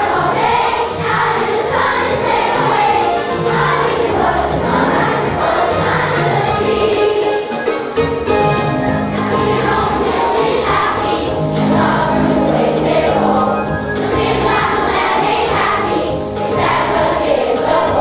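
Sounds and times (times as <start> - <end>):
children's choir singing: 0.0 - 18.0.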